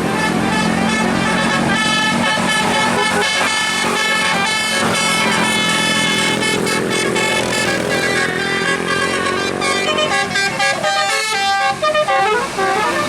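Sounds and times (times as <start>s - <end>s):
multi-tone air horn tune: 0.0s - 13.0s.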